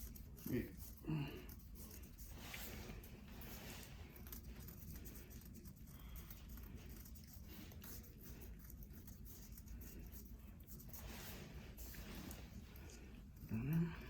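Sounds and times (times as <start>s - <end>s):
scraping callused skin: 0.0s - 14.0s.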